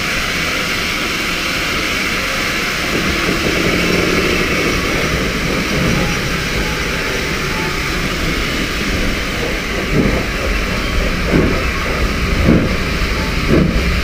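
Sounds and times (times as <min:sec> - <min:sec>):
rushing air: 0:00.0 - 0:14.0
steam train exhaust: 0:00.0 - 0:14.0
train wheels on rails: 0:00.0 - 0:14.0.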